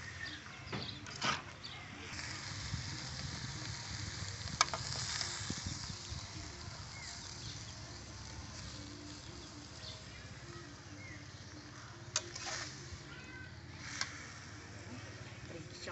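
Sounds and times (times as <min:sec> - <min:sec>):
food frying in a wok: 0:02.0 - 0:15.9.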